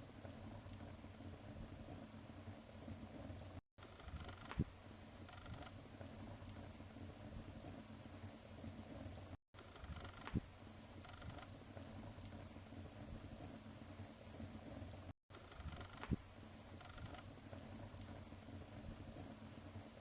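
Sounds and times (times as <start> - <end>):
wood fire crackling: 0.1 - 20.0.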